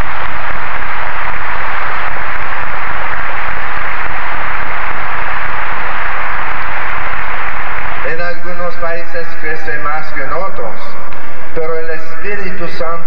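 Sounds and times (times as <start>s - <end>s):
tape static hiss: 0.0s - 13.0s.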